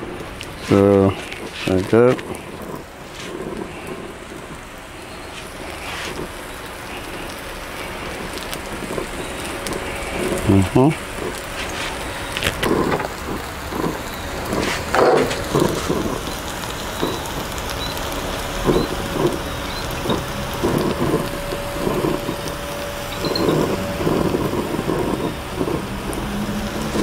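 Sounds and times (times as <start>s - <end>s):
spatula scraping pan: 0.0s - 17.9s, 18.6s - 27.0s
batter sizzling in frying pan: 0.0s - 27.0s.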